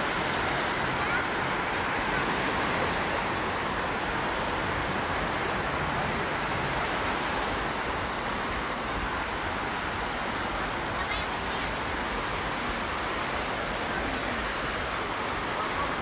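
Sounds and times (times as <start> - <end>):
small waves breaking on beach: 0.0 - 16.0.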